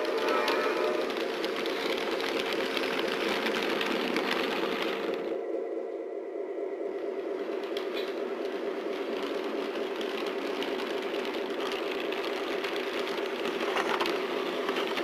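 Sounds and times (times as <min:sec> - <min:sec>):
wheels rattling over track: 0:00.0 - 0:05.4, 0:07.4 - 0:15.0.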